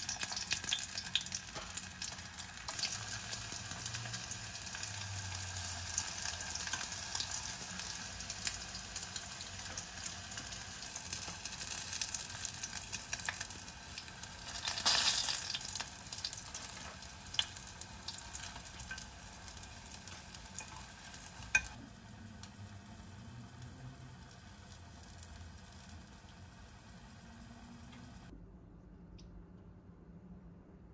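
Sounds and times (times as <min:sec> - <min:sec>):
fish sizzling in hot oil: 0:00.0 - 0:28.3.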